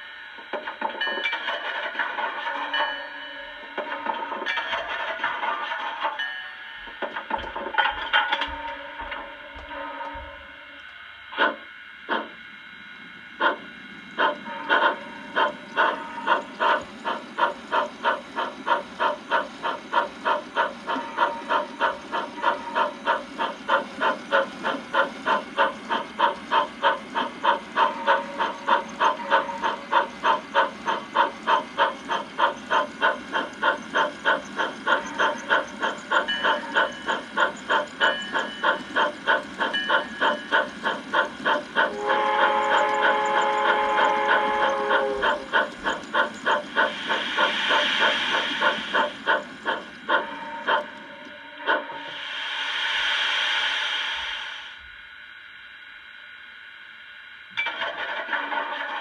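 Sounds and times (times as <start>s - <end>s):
model steam locomotive chuffing: 0.0s - 54.8s, 57.6s - 59.0s.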